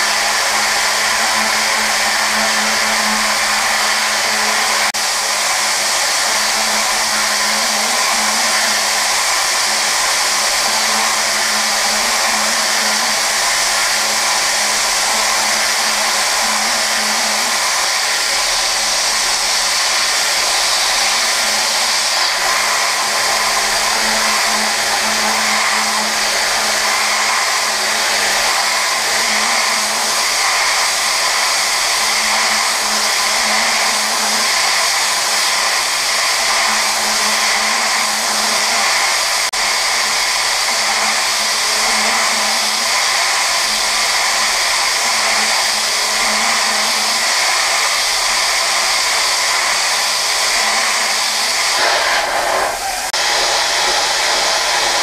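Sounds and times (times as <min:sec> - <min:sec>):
milling spindle whirring: 0:00.0 - 0:55.0.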